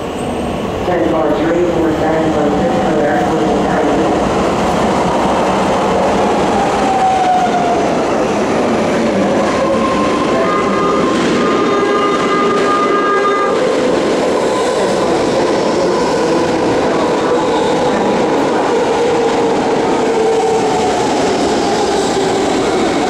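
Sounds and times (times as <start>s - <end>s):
standing train noise: 0.0s - 23.0s
train whine: 0.0s - 23.0s.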